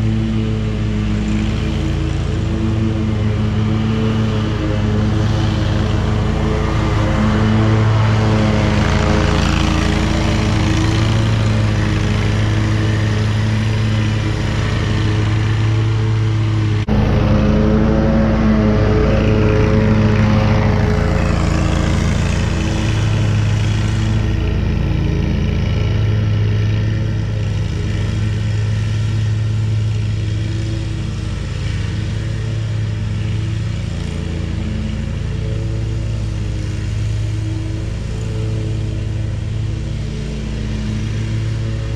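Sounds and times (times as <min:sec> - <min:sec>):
mower engine droning: 0:00.0 - 0:41.9.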